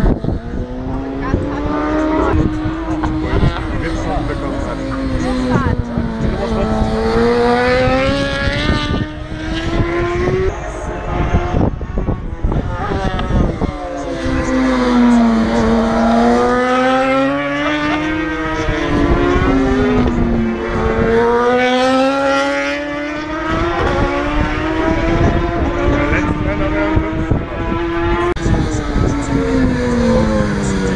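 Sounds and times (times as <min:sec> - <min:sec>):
race motorcycles at high revs: 0:00.0 - 0:30.9.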